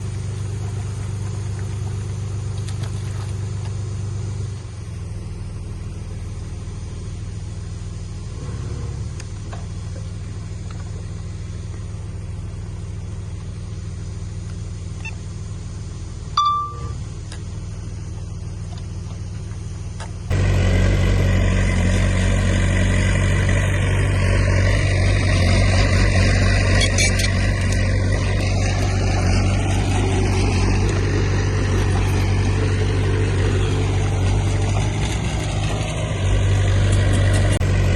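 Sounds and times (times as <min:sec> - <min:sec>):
diesel machinery droning: 0:00.0 - 0:37.9
rough engine sound: 0:00.0 - 0:37.9.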